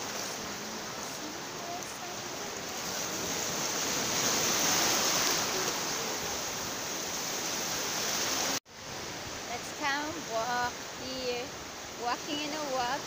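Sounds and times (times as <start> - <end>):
surf washing in shallow water: 0.0 - 13.0.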